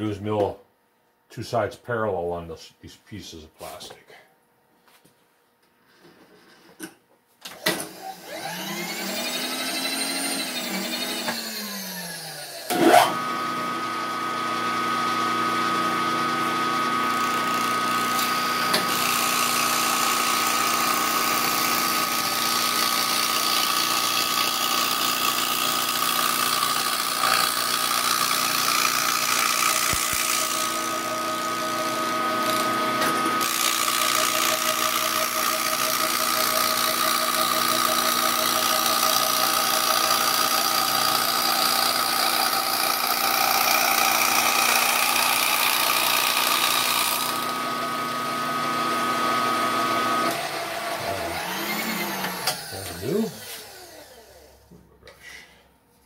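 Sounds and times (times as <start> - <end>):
cutter milling plastic: 7.5 - 54.5
milling machine whine: 7.6 - 54.6.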